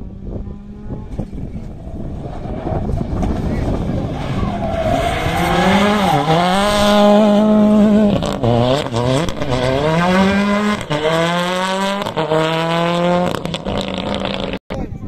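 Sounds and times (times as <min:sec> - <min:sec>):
racing car engine shifting gears: 0:01.0 - 0:14.6.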